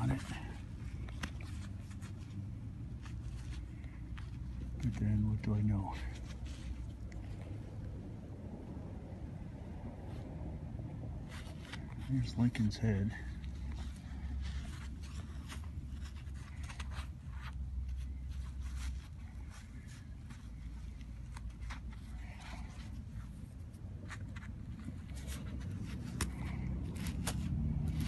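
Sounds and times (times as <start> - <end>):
low handling rumble: 0.0 - 28.0.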